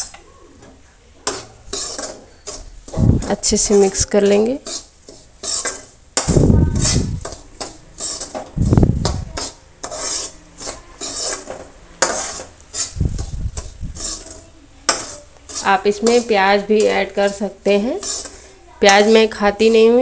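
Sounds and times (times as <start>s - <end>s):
metal spatula scraping pan: 1.2s - 20.0s.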